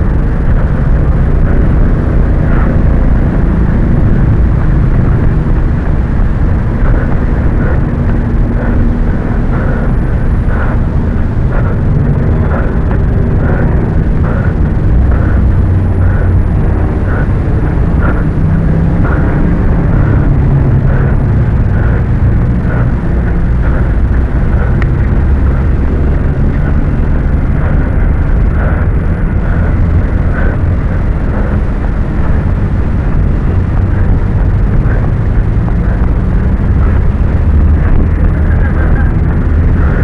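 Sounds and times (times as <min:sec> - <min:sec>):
road traffic rumble: 0:00.0 - 0:40.0
wind buffeting microphone: 0:00.0 - 0:40.0.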